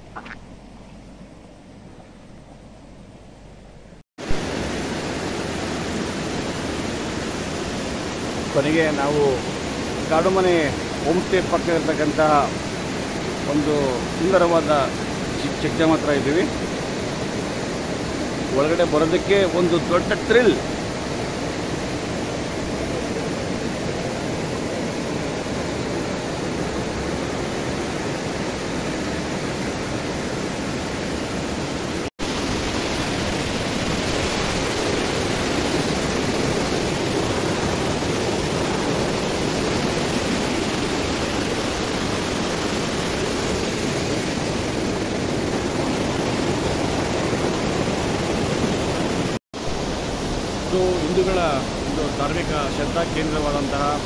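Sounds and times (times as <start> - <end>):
water rushing over spillway: 4.2 - 54.0.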